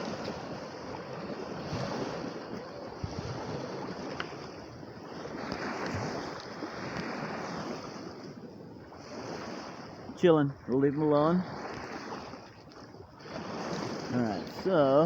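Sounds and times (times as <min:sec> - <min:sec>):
waves on rocky shore: 0:00.0 - 0:15.0
wind buffeting microphone: 0:00.0 - 0:15.0.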